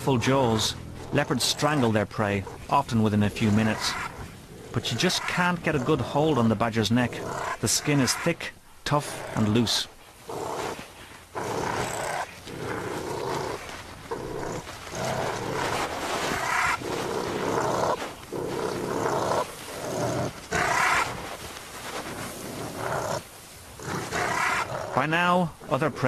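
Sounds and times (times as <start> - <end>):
leopard growling: 0.0 - 26.0.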